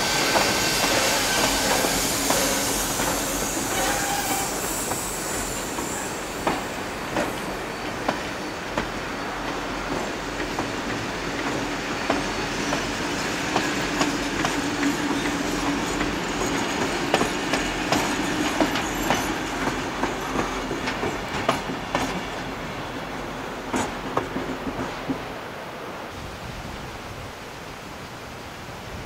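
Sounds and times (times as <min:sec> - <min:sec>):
train rolling rumble: 0:00.0 - 0:27.4.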